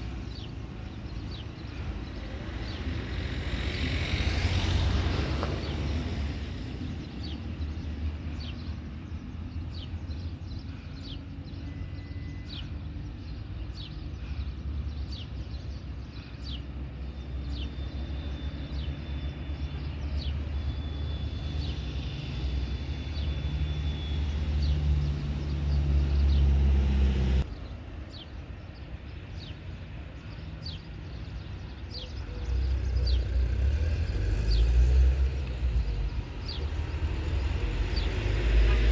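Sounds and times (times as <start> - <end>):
distant jet engines rumbling: 0.0 - 38.9.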